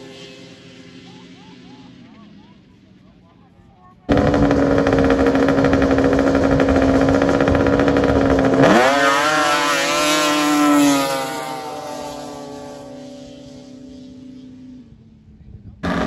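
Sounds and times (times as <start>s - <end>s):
snowmobile engines revving: 0.0s - 14.7s, 15.7s - 16.0s.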